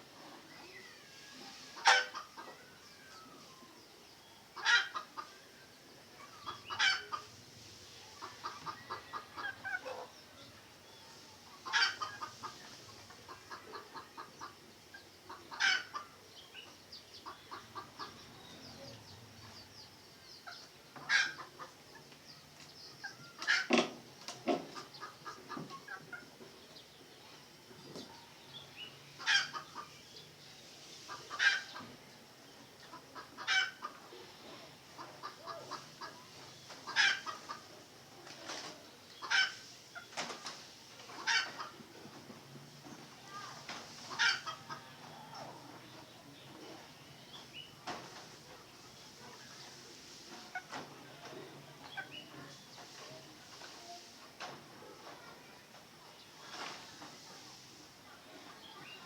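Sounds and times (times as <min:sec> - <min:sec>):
chicken clucking: 0:01.3 - 0:03.5, 0:04.5 - 0:55.3.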